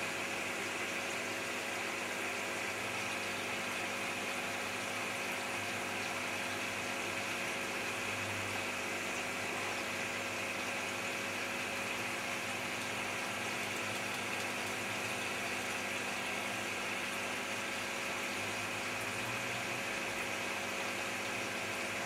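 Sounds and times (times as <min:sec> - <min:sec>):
aquarium air pump humming: 0:00.0 - 0:22.0.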